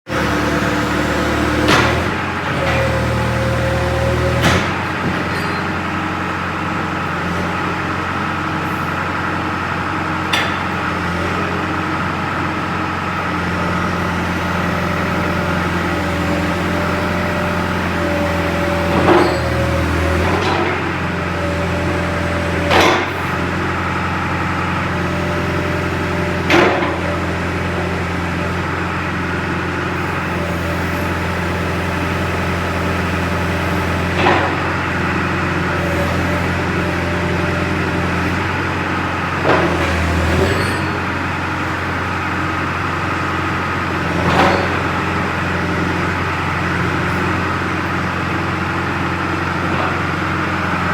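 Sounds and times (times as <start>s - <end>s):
diesel engine running: 0.1s - 50.9s.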